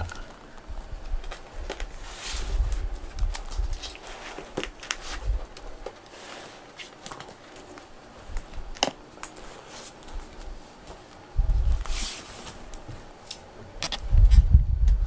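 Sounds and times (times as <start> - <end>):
soft rustling: 0.1 - 13.2.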